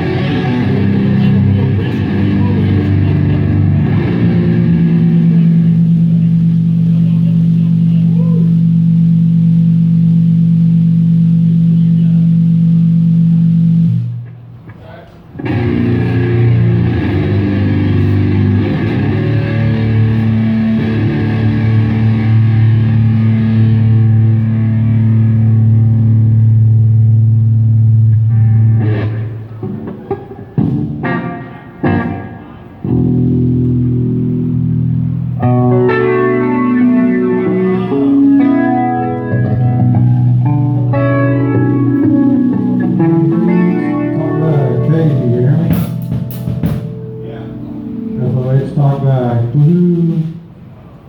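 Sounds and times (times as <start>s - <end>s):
electric guitar sustained notes: 0.0s - 14.4s, 15.4s - 50.8s
bass guitar sustained notes: 0.0s - 14.6s, 15.4s - 51.0s.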